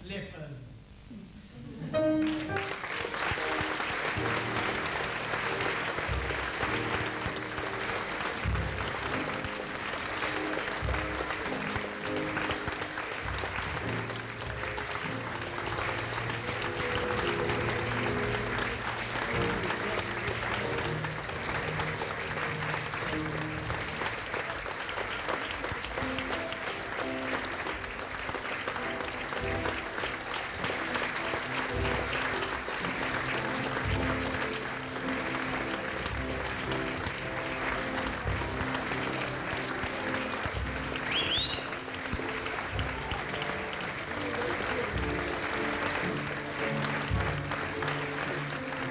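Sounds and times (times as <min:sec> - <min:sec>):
music with held notes: 0:01.8 - 0:48.9
audience clapping: 0:02.0 - 0:48.9.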